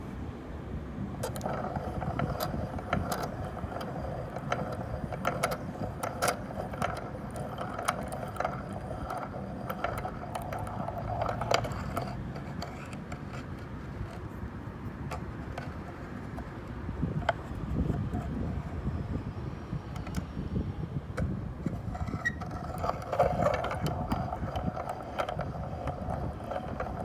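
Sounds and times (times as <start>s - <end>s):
mechanical whir: 1.2s - 27.0s.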